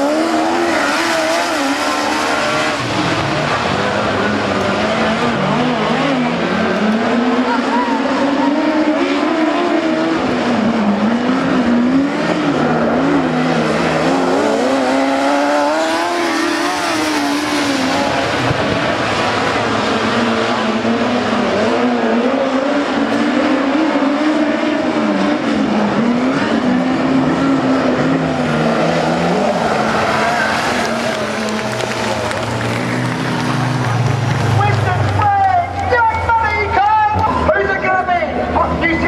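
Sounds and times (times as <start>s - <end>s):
race car engines: 0.0s - 39.0s.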